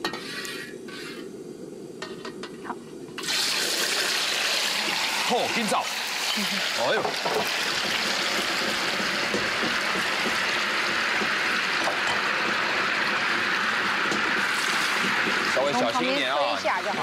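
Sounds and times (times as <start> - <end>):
tofu sizzling in hot oil: 3.2 - 17.0.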